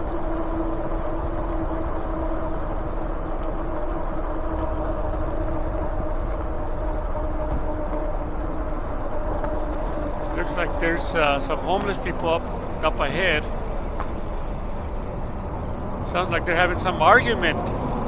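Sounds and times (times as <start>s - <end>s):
wind and tyre rumble: 0.0s - 18.0s.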